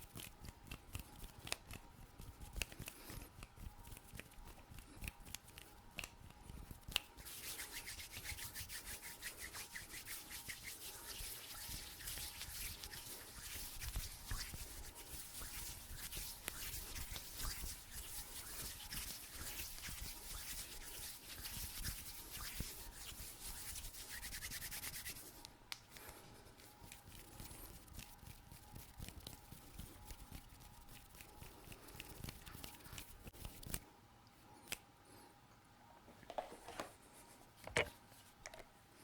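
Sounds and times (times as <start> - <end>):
hands rubbing and scratching skin: 0.0 - 33.8.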